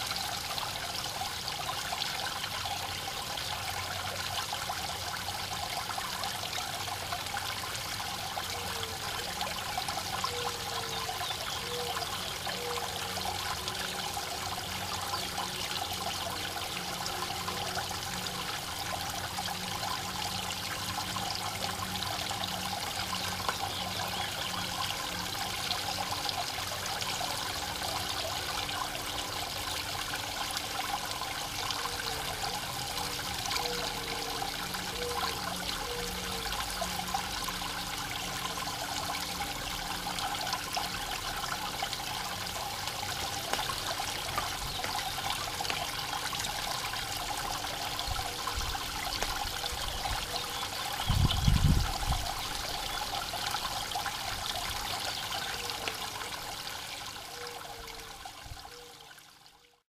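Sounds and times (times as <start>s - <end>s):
water trickling over stone: 0.0s - 59.8s.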